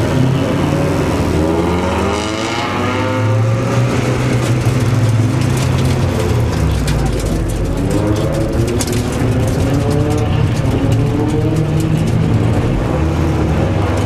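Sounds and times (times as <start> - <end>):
car engine pulling in low gear: 0.0 - 14.0.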